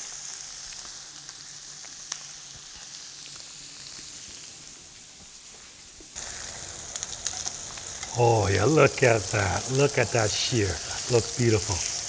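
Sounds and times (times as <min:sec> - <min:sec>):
steaks sizzling in a skillet: 0:00.0 - 0:12.0.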